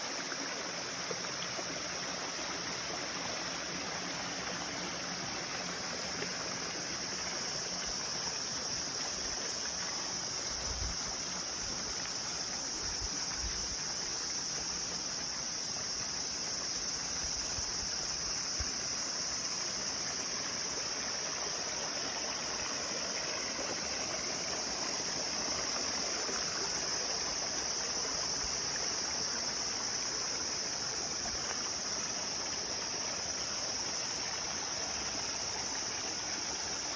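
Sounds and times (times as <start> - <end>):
flowing water: 0.0 - 36.9.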